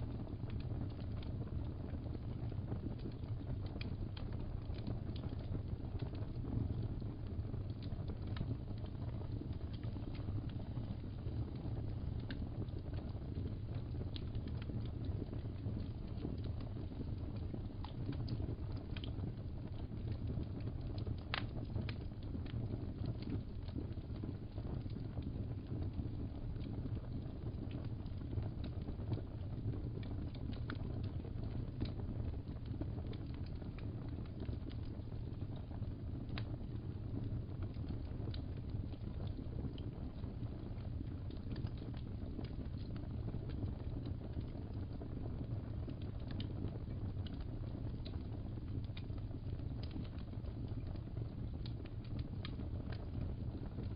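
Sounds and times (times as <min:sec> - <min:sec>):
fire pops and snaps: 0:00.0 - 0:53.9
low rumble of flames: 0:00.0 - 0:53.9
wood fire crackling: 0:00.0 - 0:53.9.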